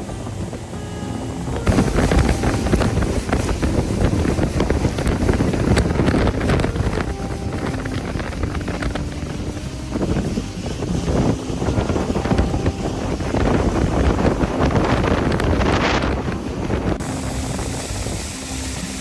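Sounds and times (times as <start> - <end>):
motorboat engine running: 0.0 - 19.0
wind buffeting microphone: 0.0 - 19.0.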